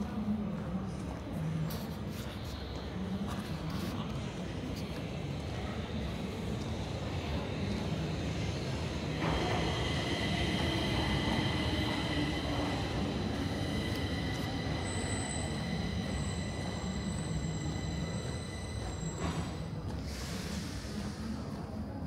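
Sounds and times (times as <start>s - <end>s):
metro train rumble: 0.0s - 22.0s.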